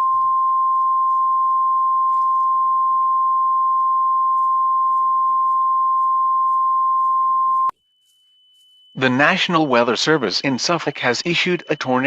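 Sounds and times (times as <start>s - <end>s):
steady high-pitched warning tone: 0.0s - 12.0s.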